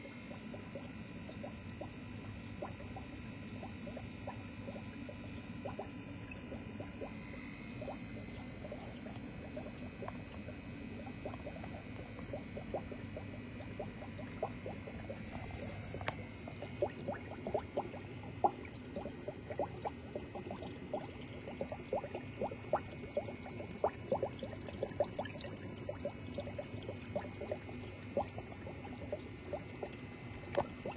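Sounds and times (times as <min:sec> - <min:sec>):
steady low hum: 0:00.0 - 0:30.9
water bubbling and popping: 0:00.0 - 0:30.9.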